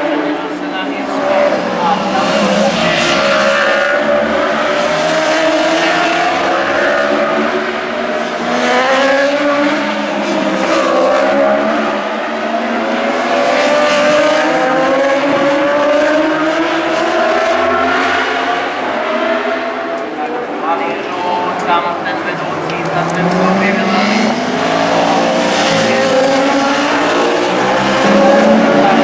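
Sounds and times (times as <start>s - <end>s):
racing motorcycles passing: 0.0s - 17.3s, 19.4s - 29.0s.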